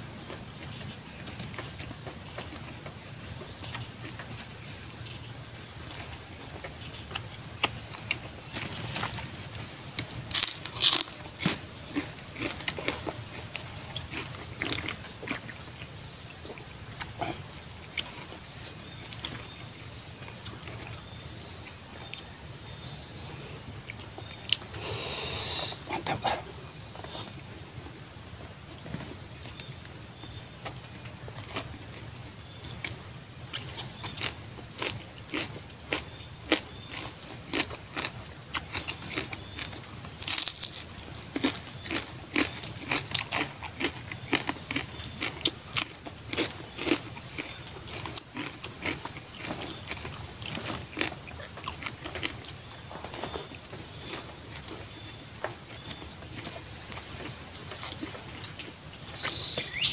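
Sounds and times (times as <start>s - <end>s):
insects droning: 0.0s - 59.9s
chewing and crunching: 0.1s - 25.0s, 25.7s - 59.9s.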